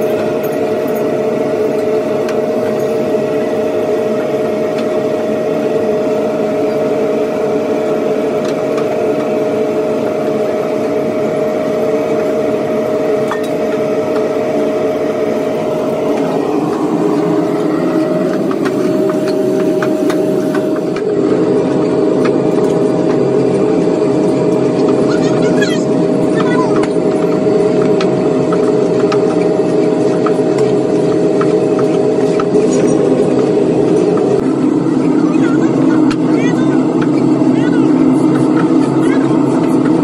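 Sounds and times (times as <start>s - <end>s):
workshop machinery droning: 0.0s - 40.0s.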